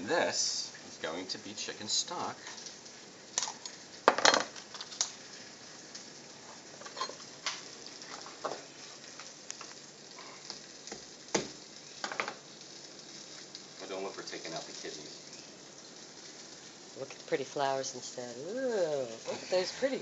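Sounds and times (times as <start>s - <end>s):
chicken frying in oil: 0.0s - 20.0s.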